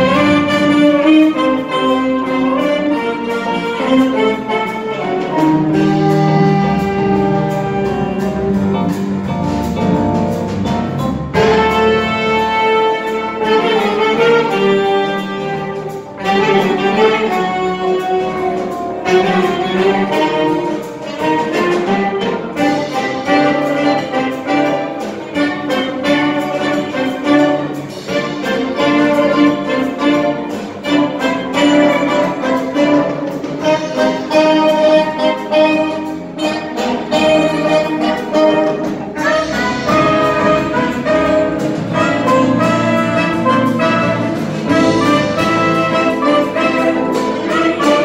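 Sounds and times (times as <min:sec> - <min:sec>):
saxophone section: 0:00.0 - 0:09.1, 0:11.3 - 0:48.0
piano: 0:00.0 - 0:48.0
upright bass: 0:00.0 - 0:48.0.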